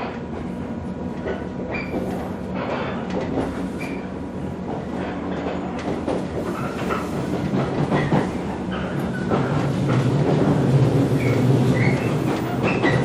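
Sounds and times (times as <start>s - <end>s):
train wheels roaring on rails: 0.0s - 13.0s
clicks and knocks from track: 1.2s - 13.0s.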